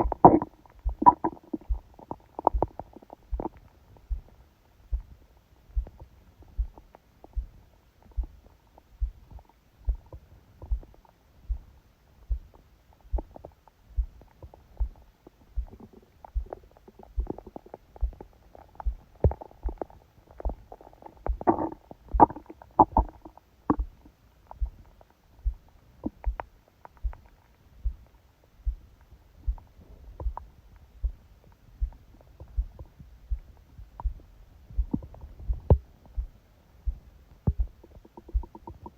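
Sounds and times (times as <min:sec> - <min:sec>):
heartbeat thudding: 0:00.0 - 0:38.9
stomach gurgling and rumbling: 0:00.0 - 0:38.9.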